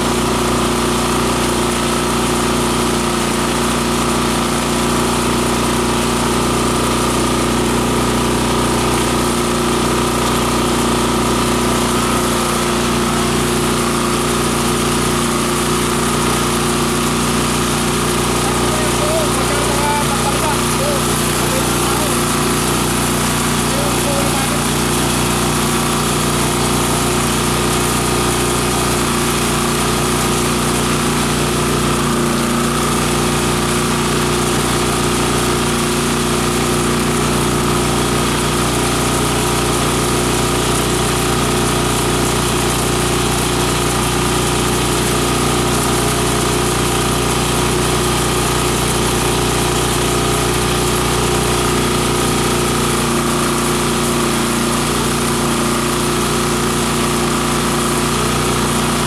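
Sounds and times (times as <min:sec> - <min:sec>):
chopper grinder motor running: 0:00.0 - 0:59.0.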